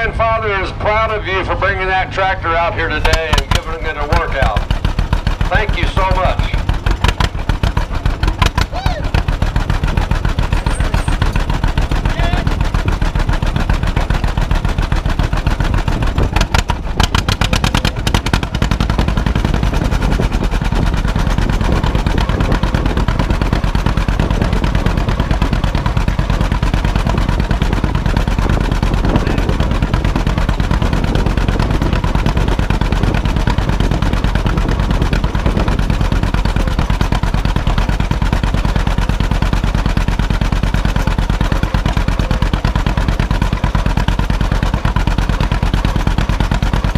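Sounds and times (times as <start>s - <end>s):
tractor engine exhaust popping: 0.0s - 46.9s.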